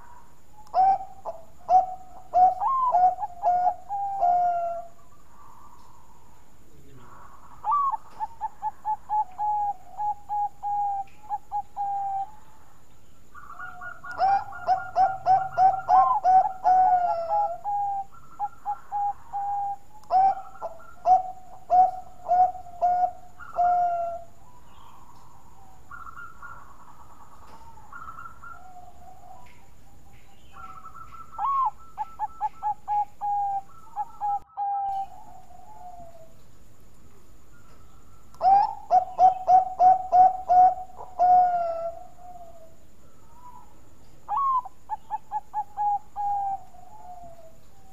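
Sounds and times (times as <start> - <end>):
dove cooing: 0.0 - 36.4, 37.5 - 47.9.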